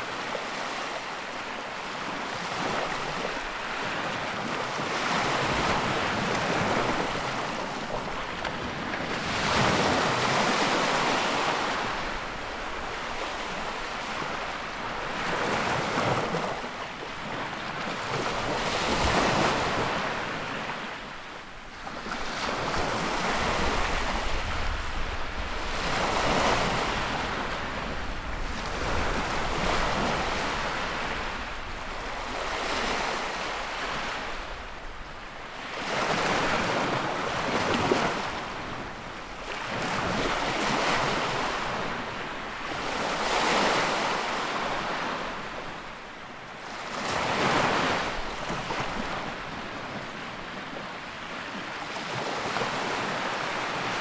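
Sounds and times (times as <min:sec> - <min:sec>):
sea waves breaking: 0:00.0 - 0:21.2, 0:21.8 - 0:54.0.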